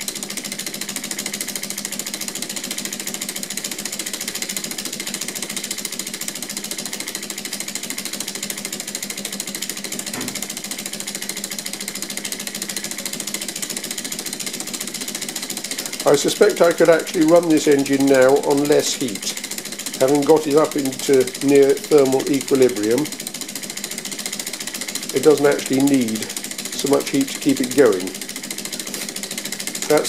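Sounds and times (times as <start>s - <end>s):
small engine clattering: 0.0s - 30.0s.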